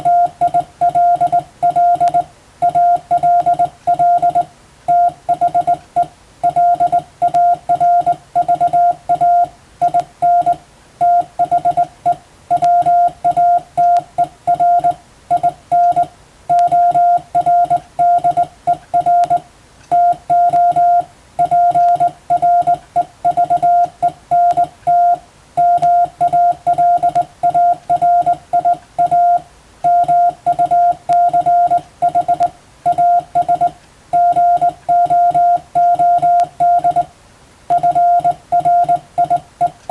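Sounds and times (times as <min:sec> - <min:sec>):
morse code beeps: 0:00.0 - 0:37.1, 0:37.7 - 0:39.8.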